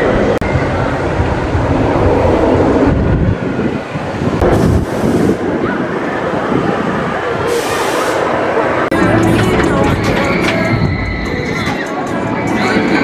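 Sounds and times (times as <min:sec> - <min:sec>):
roller coaster train rumbling: 0:00.0 - 0:13.0
wind buffeting microphone: 0:00.0 - 0:13.0.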